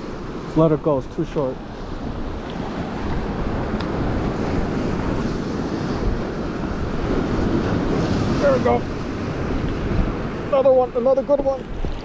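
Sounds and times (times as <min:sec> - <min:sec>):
surf breaking over rocks: 0:00.0 - 0:12.0
wind buffeting microphone: 0:00.0 - 0:12.0.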